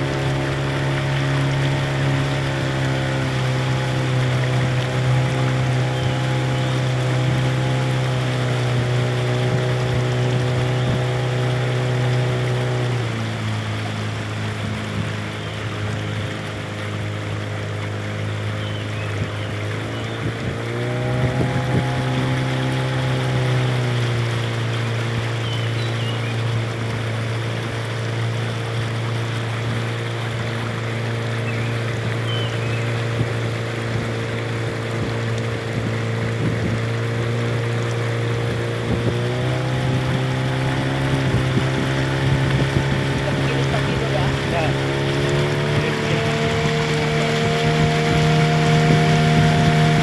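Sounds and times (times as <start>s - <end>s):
boat engine running: 0.0s - 50.0s
outboard motor droning: 0.0s - 50.0s
water rushing along hull: 0.0s - 50.0s.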